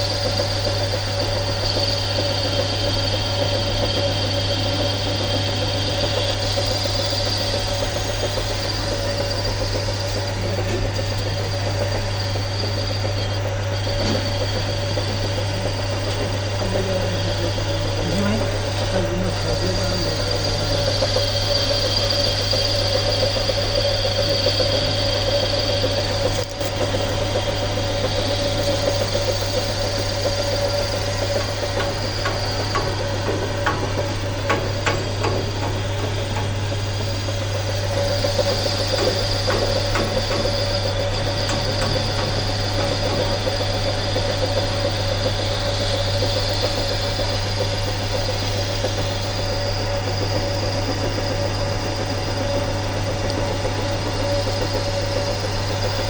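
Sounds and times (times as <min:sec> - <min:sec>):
workshop machine humming: 0:00.0 - 0:56.0.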